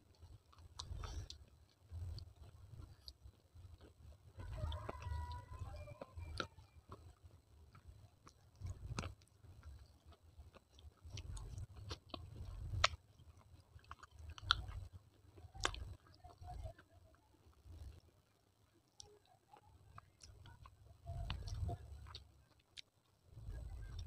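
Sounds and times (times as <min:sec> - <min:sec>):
chewing with crunches: 0:00.0 - 0:24.0.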